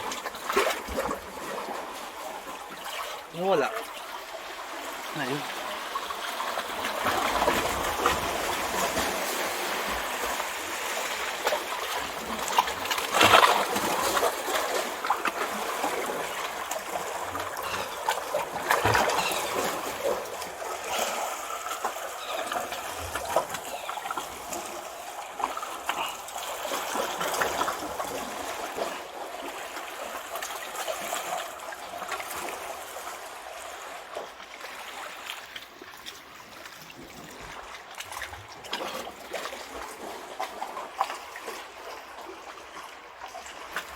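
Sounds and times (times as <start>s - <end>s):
sea water splashing among rocks: 0.0s - 43.9s.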